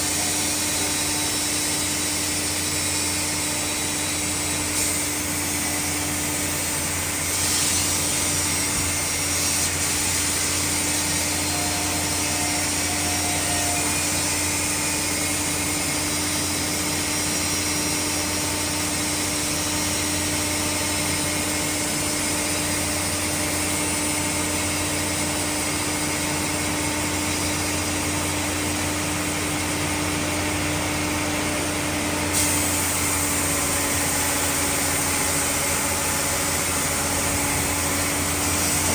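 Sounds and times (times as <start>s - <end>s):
sawmill machinery droning: 0.0s - 38.9s
steady hum: 0.0s - 38.9s.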